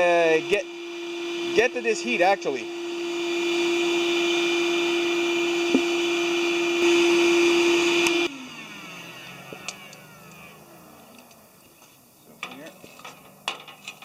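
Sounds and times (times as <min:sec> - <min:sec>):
shop vac motor whine: 0:00.0 - 0:14.0.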